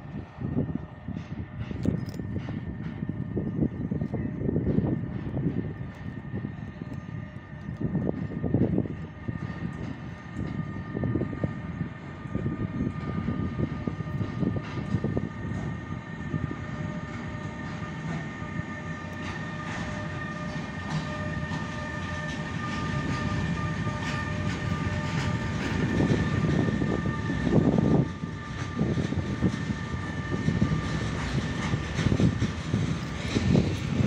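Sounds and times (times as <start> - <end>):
locomotive whine: 0.0 - 34.0
train wheels rumbling on rails: 0.0 - 34.0.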